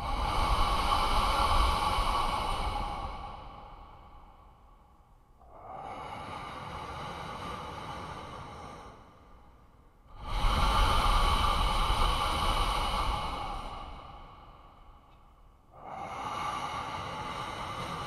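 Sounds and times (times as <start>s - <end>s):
heavy human breathing: 0.0s - 18.0s.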